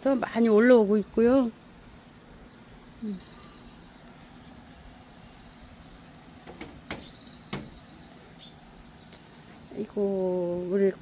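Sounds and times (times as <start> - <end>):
faint steady high hiss: 0.0 - 11.0.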